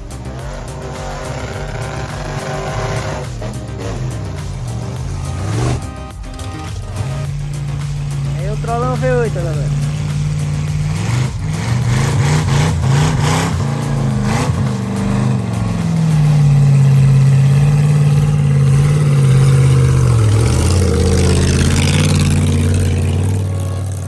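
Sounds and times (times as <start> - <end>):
engine revving hard: 0.0 - 24.0.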